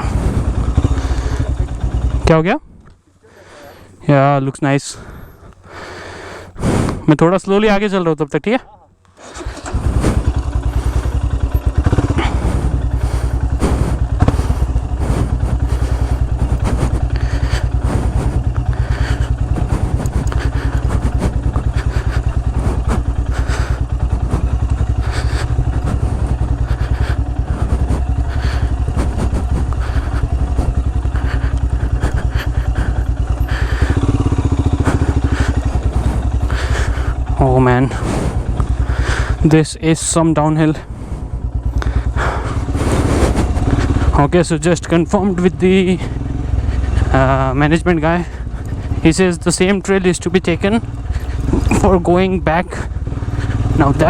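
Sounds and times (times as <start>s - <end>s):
motorcycle engine at low revs: 0.0s - 4.2s, 5.0s - 7.1s, 9.1s - 54.0s.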